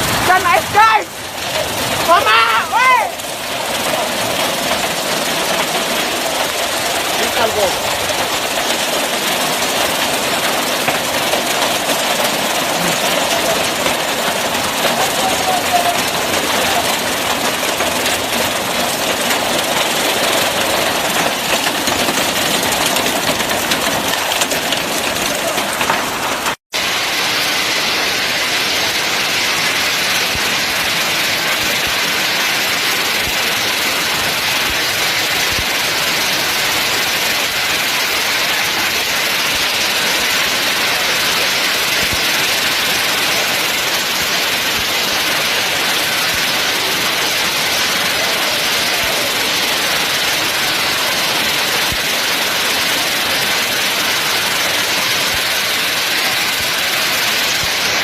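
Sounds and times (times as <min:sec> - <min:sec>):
heavy rain and hail: 0:00.0 - 0:58.0.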